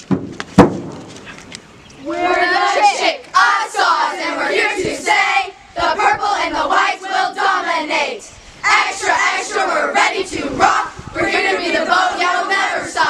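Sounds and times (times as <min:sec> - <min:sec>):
girls chanting a cheer: 0:02.0 - 0:13.0.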